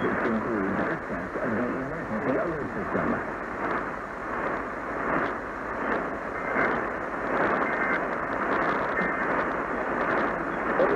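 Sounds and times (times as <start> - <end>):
radio static hiss: 0.0 - 10.9.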